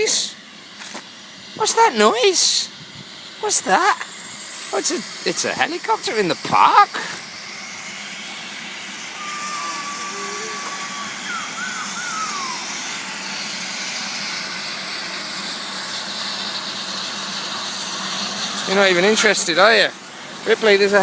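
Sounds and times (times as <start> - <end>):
helicopter engine whining: 0.0 - 21.0.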